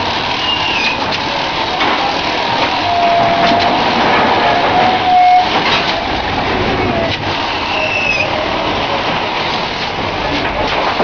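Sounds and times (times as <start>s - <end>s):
bagging machine mechanical din: 0.0s - 11.0s.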